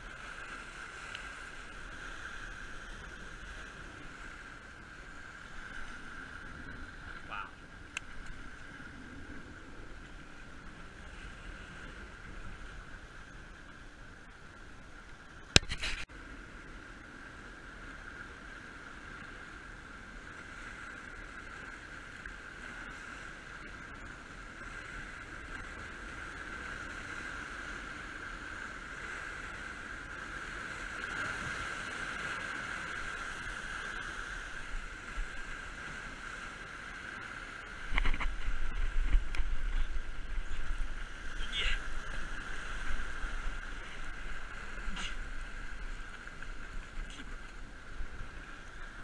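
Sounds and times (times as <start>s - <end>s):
wind: 0.0s - 49.0s.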